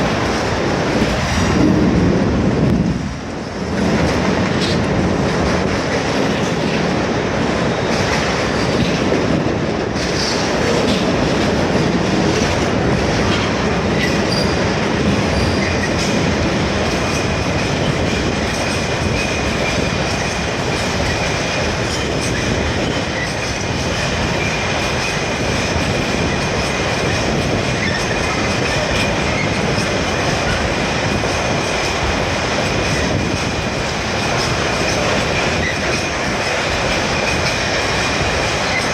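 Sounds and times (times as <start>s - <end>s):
train wheels clattering over rail joints: 3.3s - 38.9s.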